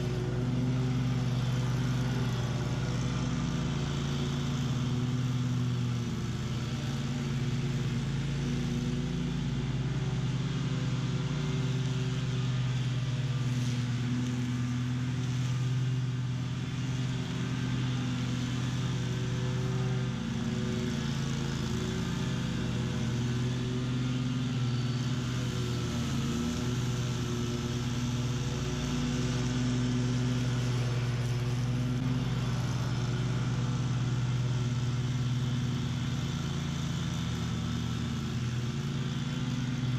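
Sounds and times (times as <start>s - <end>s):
lawn mower engine humming: 0.0s - 39.9s.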